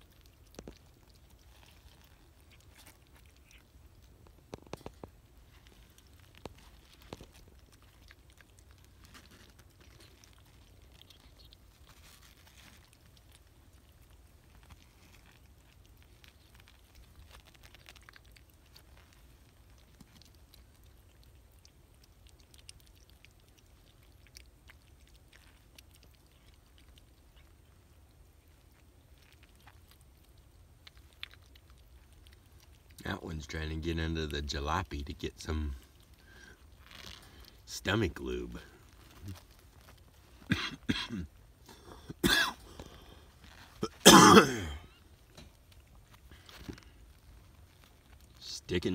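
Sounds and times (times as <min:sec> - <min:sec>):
kittens nursing clicks and smacks: 0:00.0 - 0:44.0, 0:44.8 - 0:48.9.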